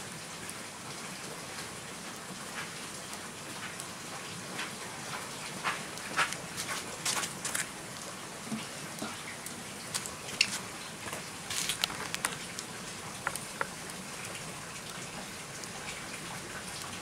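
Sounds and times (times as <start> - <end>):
wood fire crackling: 0.4 - 17.0.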